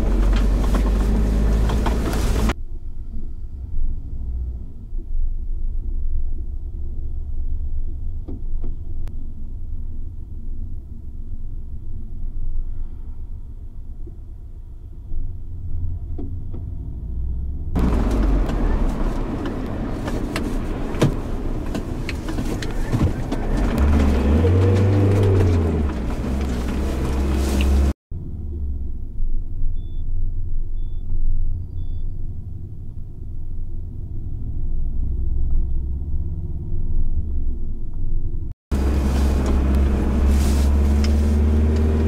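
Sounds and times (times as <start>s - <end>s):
car engine and road rumble: 0.0s - 42.0s
louder road and engine noise: 0.0s - 42.0s.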